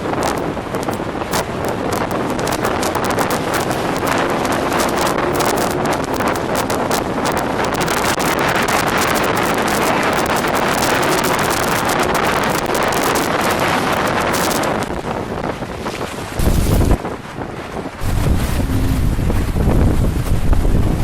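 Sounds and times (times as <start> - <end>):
boat engine running: 0.0 - 21.0
water rushing against hull: 0.0 - 21.0
wind buffeting microphone: 0.0 - 21.0.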